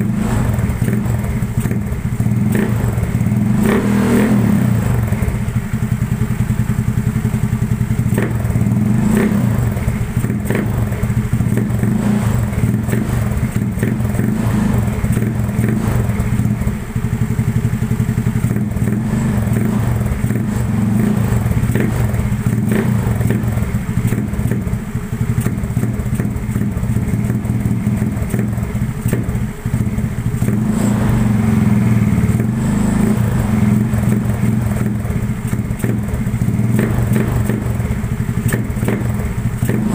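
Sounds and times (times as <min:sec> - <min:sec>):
scooter engine droning: 0:00.0 - 0:39.9.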